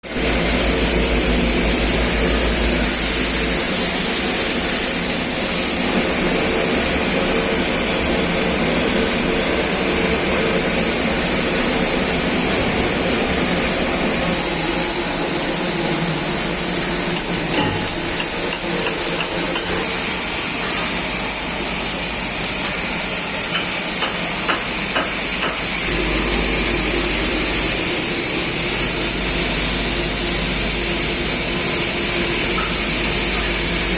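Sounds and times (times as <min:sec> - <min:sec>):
furnace burner and blower roar: 0:00.0 - 0:33.9.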